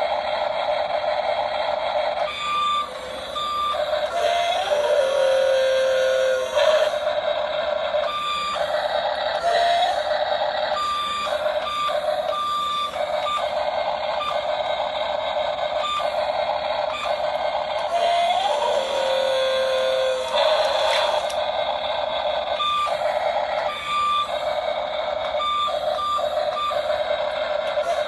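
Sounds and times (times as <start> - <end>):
small electric motors whining: 2.1 - 28.0.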